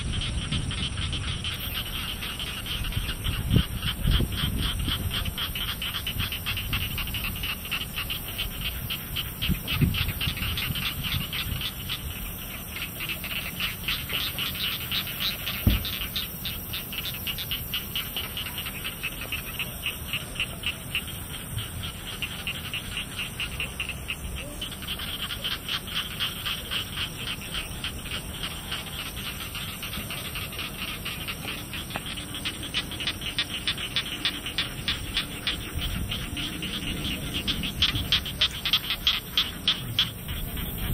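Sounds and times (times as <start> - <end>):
rapid pulsing animal call: 0.0 - 40.9.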